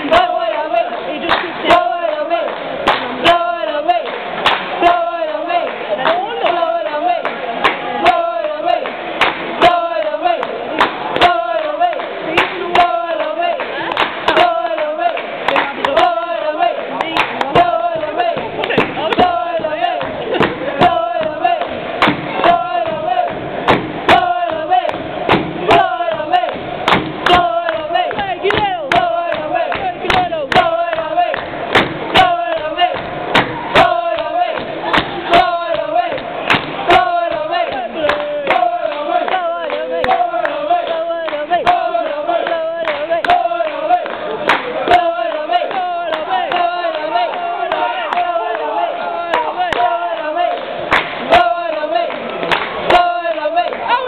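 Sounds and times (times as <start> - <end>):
football supporters chanting: 0.0 - 54.0
sharp claps: 0.0 - 54.0.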